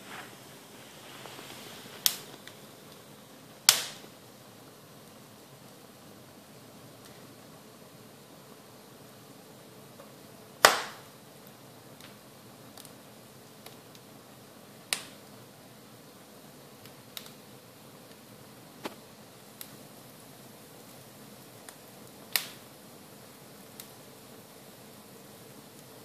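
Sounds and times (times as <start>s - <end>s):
low fire hiss: 0.0s - 26.0s
wood fire popping: 0.0s - 26.0s.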